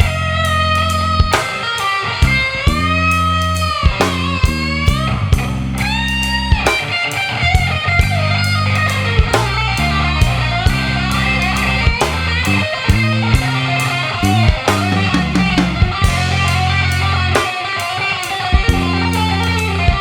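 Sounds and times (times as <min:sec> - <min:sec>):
bass line: 0:00.0 - 0:01.4, 0:02.2 - 0:06.8, 0:07.4 - 0:17.4, 0:18.6 - 0:20.0
blues electric guitar solo: 0:00.0 - 0:20.0
steady drum beat: 0:00.0 - 0:20.0.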